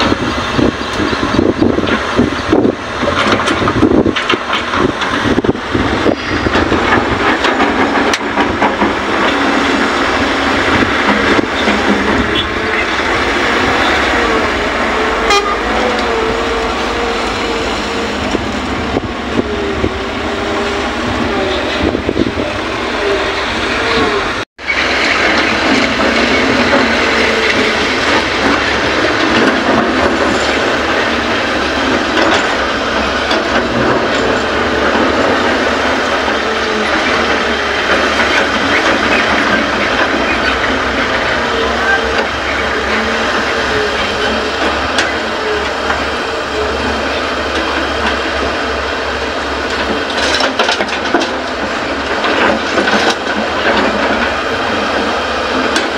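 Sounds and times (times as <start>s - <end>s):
excavator and dump truck running: 0.0s - 55.9s.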